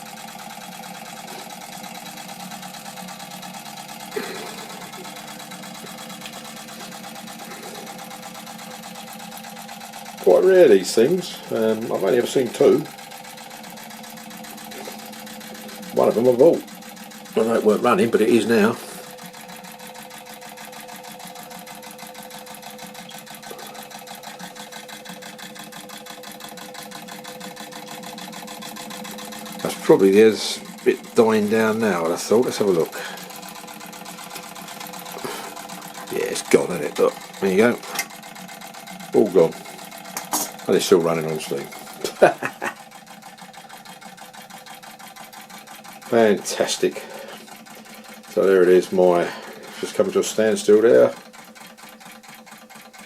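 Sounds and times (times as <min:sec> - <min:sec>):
toy steam engine chuffing: 0:00.0 - 0:53.0.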